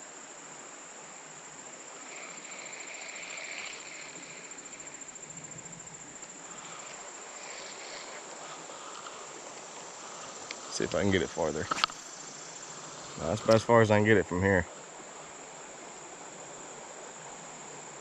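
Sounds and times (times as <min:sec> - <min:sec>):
background hiss: 0:00.0 - 0:18.0
insects trilling: 0:00.0 - 0:18.0.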